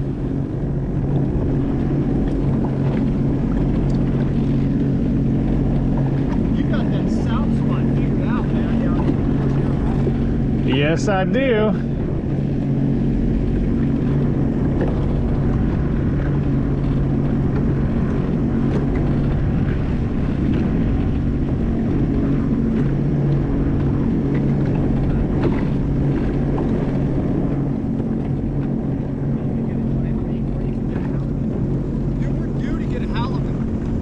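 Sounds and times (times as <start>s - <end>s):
watercraft engine running: 0.0s - 34.0s.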